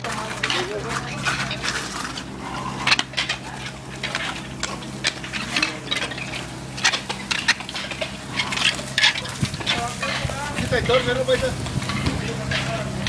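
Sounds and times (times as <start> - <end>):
steady low hum: 0.0 - 13.0
trowels scraping and clinking: 0.0 - 13.0.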